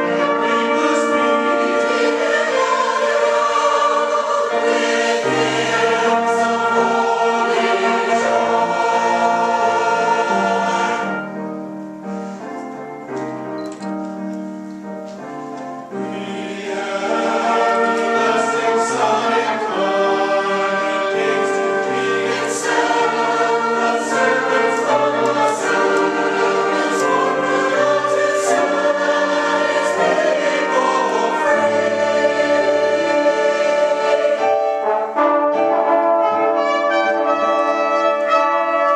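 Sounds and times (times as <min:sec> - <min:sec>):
choir singing: 0:00.0 - 0:11.7, 0:15.9 - 0:38.9.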